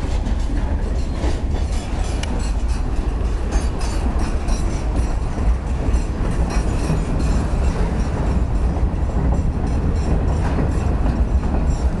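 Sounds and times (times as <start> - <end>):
freight train rumbling past: 0.0 - 12.0
wheels clicking on rails: 0.0 - 12.0.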